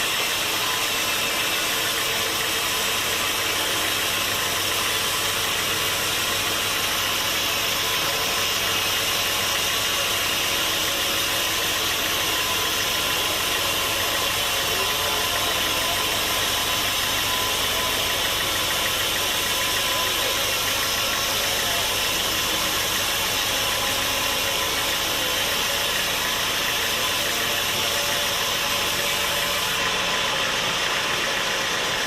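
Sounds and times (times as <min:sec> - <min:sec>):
sawmill machinery droning: 0:00.0 - 0:32.0.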